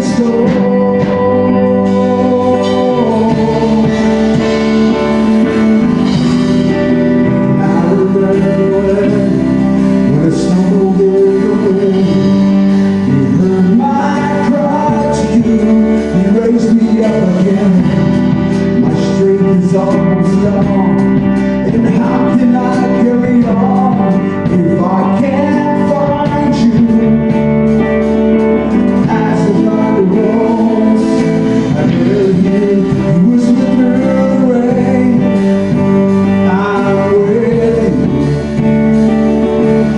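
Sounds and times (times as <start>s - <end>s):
guitars and bass: 0.0s - 39.9s
person singing: 0.0s - 39.9s.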